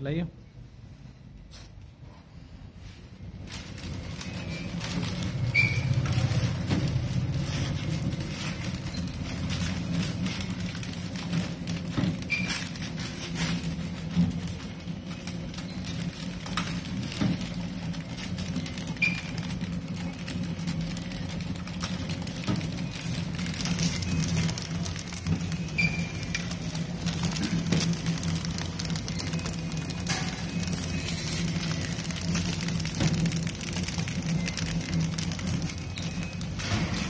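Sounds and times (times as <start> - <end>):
foil film crackling: 2.8 - 37.0
machine humming: 3.5 - 37.0.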